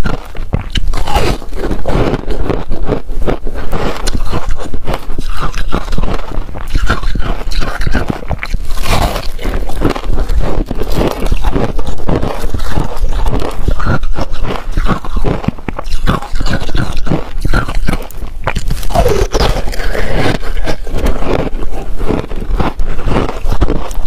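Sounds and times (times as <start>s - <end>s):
crunching and chewing ice: 0.0s - 24.0s.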